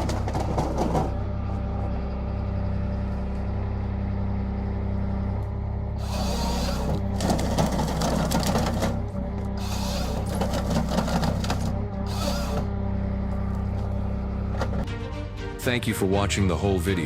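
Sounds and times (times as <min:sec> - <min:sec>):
heavy machine engine running: 0:00.0 - 0:14.9.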